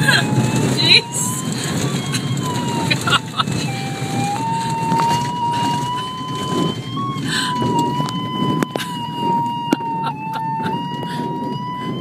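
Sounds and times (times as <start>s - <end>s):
variometer electronic tone: 0.2s - 12.0s.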